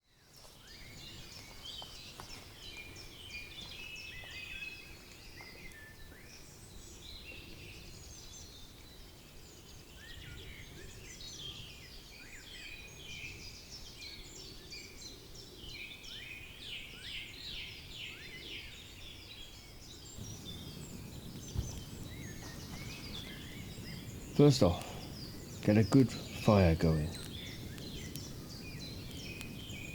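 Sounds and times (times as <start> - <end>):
songbirds chirping and trilling: 0.0 - 29.9.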